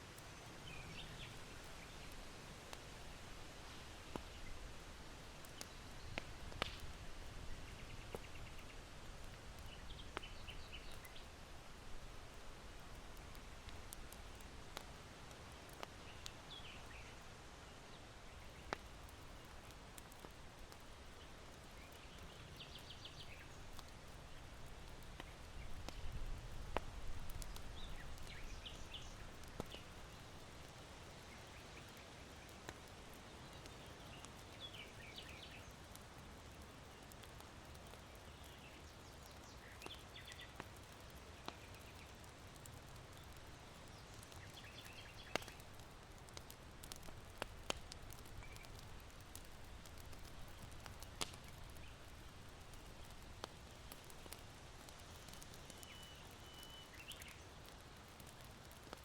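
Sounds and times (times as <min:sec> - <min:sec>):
charcoal fire popping: 0:00.0 - 0:59.0
small birds chirping: 0:00.2 - 0:02.3, 0:03.7 - 0:14.4, 0:15.6 - 0:59.0.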